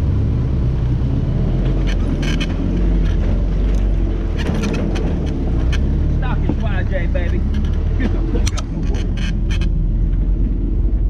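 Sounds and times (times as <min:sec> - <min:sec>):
off-road vehicle engine rumbling: 0:00.0 - 0:11.0
sharp knocks and rattles: 0:01.6 - 0:10.6.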